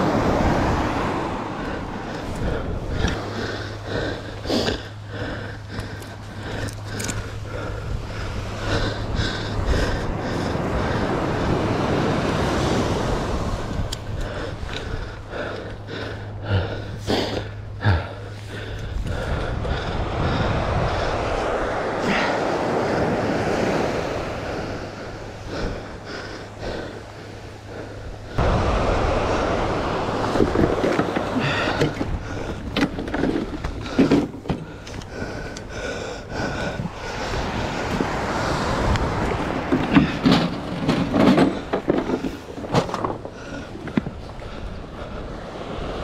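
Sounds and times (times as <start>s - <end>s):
surf on a beach: 0.0s - 18.0s, 19.2s - 46.0s
wind buffeting microphone: 0.0s - 46.0s.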